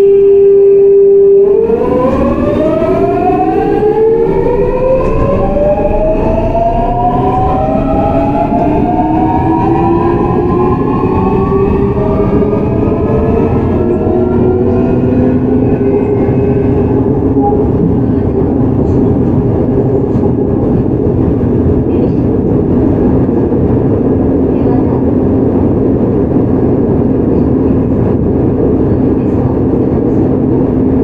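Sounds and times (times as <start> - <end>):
train inverter whining: 0.0 - 31.0
train rumbling on rails: 0.0 - 31.0.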